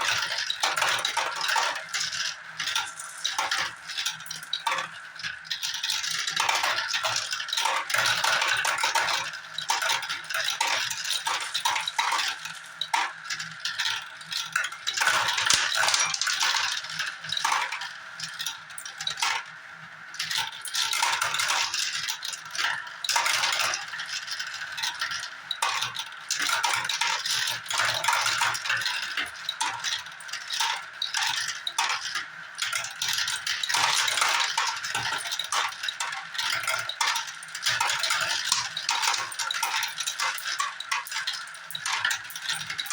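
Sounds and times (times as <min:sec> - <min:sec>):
marbles rolling and clattering: 0:00.0 - 0:19.4, 0:20.2 - 0:42.9.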